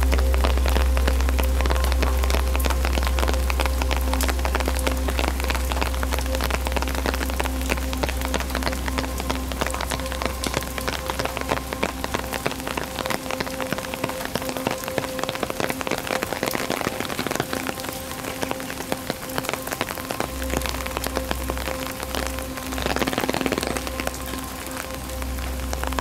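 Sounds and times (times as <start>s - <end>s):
rain pattering on an umbrella: 0.0s - 26.0s.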